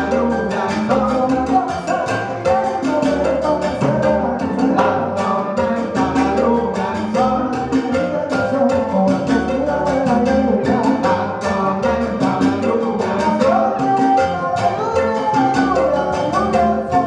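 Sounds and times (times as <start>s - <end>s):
live latin band playing: 0.0s - 17.0s
percussion beat: 0.0s - 17.0s.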